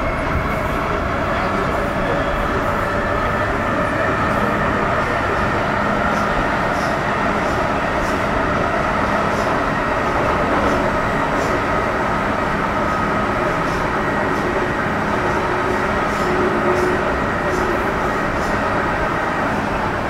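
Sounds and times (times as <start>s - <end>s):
train rumble and rail noise: 0.0s - 20.0s.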